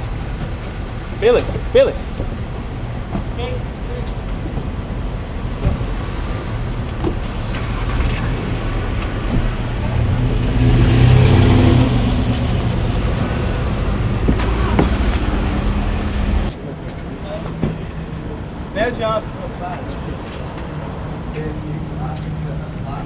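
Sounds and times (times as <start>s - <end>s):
road and traffic noise: 0.0s - 23.0s.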